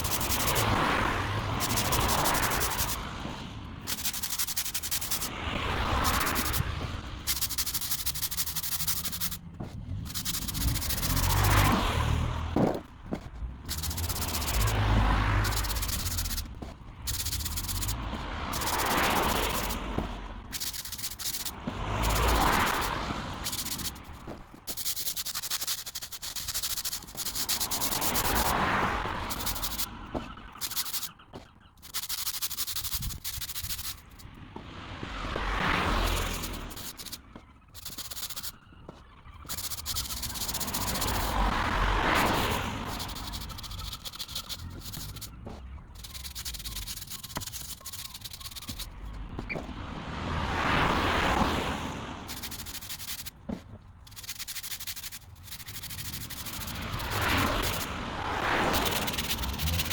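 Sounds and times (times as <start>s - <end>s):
water jet hissing onto paving: 0.0s - 49.8s, 50.4s - 59.9s.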